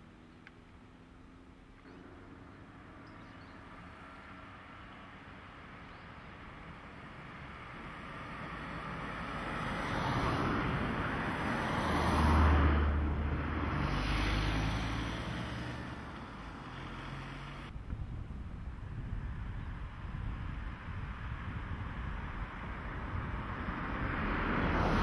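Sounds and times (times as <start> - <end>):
vehicle passing by: 0.0 - 17.7, 19.4 - 25.0
low engine hum: 0.0 - 25.0.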